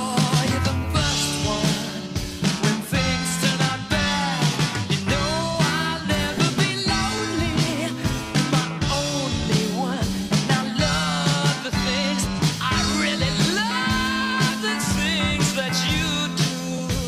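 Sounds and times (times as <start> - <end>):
song with singing over beat: 0.0 - 17.0.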